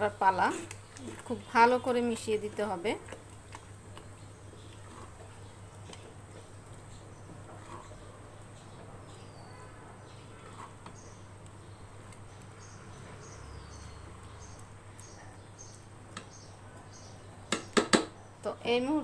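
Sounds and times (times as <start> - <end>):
spatula stirring thick food in pot: 0.0 - 17.9.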